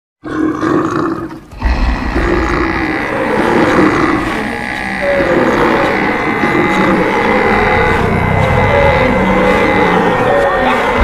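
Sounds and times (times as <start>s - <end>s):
running hooves rumbling: 1.4s - 11.0s
animal calls: 1.5s - 11.0s.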